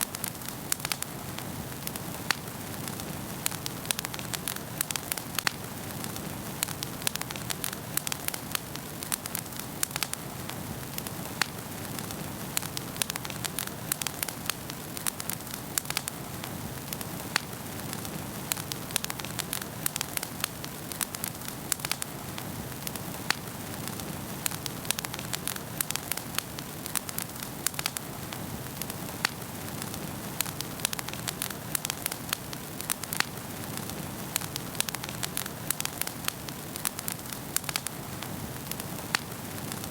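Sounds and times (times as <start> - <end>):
fire hissing: 0.0 - 39.9
wood fire pops and snaps: 0.0 - 39.9.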